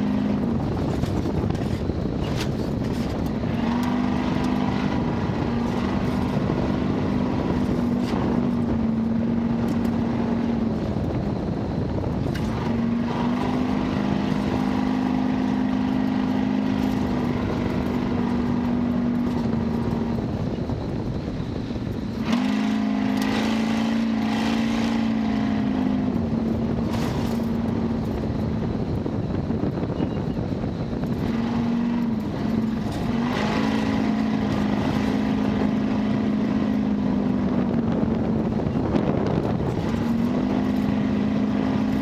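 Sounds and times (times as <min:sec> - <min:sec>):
car engine revving: 0:00.0 - 0:42.0
rushing driving noise: 0:00.0 - 0:42.0.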